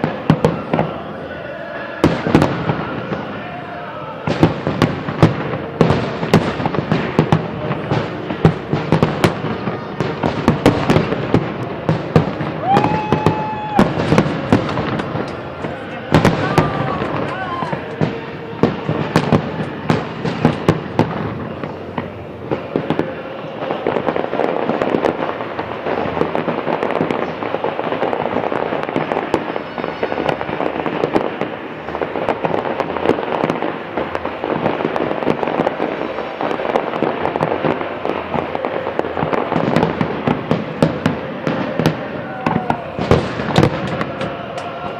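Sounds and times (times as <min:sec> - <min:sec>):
fireworks bangs and crackle: 0:00.0 - 0:44.9
loud firework bangs: 0:00.0 - 0:44.9.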